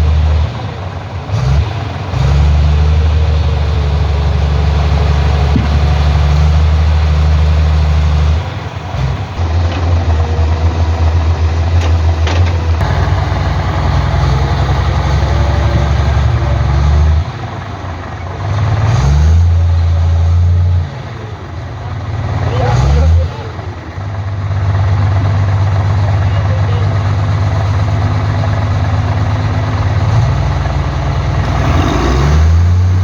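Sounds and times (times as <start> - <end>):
diesel engine of heavy machinery: 0.0 - 33.0.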